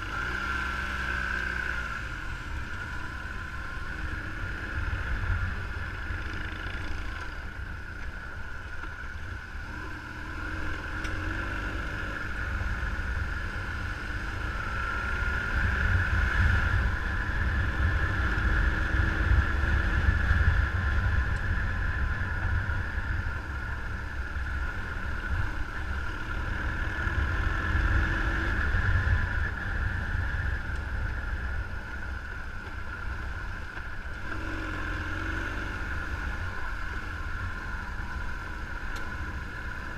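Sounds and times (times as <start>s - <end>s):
vehicle running: 0.0s - 39.9s
wind rumbling on microphone: 0.0s - 39.9s.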